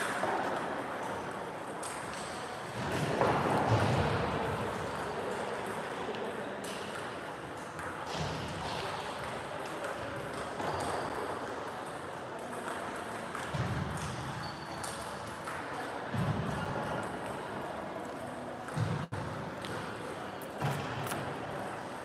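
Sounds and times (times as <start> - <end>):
background murmur: 0.0 - 22.0.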